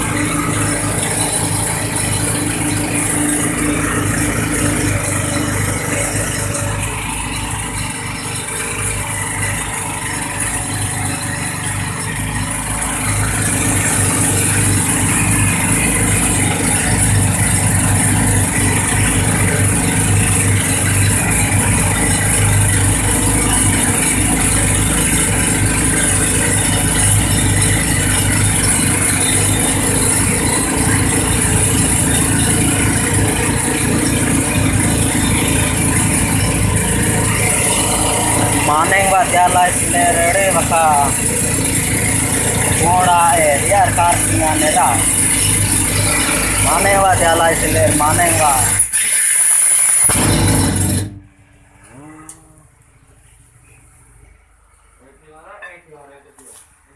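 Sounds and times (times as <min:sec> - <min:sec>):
motor running with rattle: 0:00.0 - 0:55.0.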